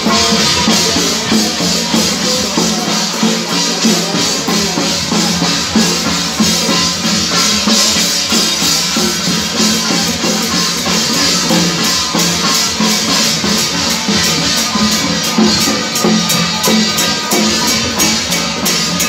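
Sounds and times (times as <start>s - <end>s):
drums gongs and cymbals: 0.0s - 19.0s.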